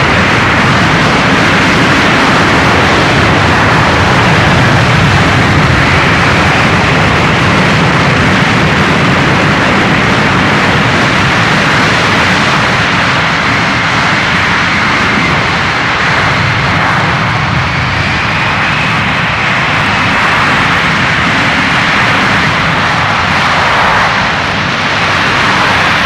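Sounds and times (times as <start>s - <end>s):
aircraft engine noise: 0.0s - 26.0s.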